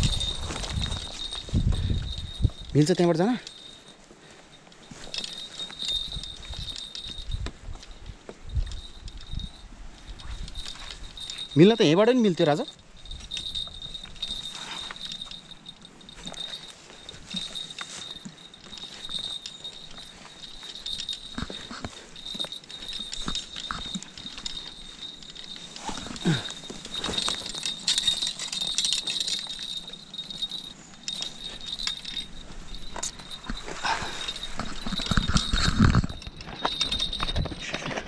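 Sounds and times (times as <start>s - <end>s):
high insect trill: 0.0s - 38.0s.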